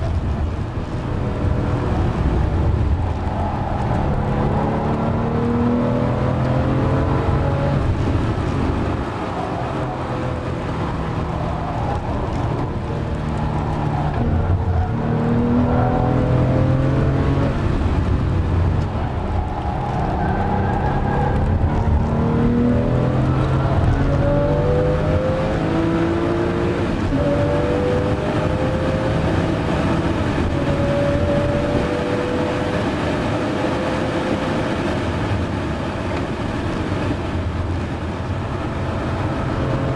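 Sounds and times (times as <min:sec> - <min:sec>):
car engine revving: 0:00.0 - 0:39.9
tyre and road rumble: 0:00.0 - 0:39.9.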